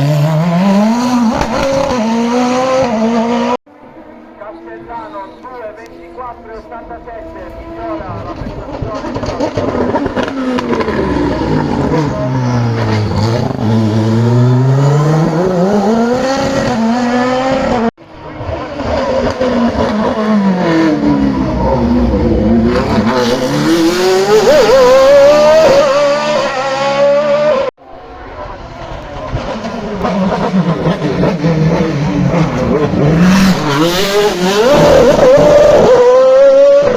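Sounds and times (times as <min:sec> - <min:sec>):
race car engines revving: 0:00.0 - 0:36.9.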